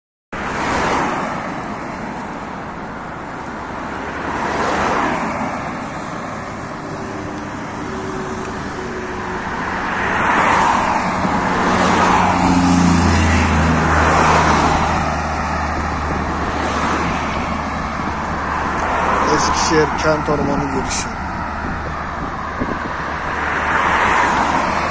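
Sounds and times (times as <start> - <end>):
cars passing by: 0.4 - 24.9
vehicle engine hum: 0.4 - 24.9.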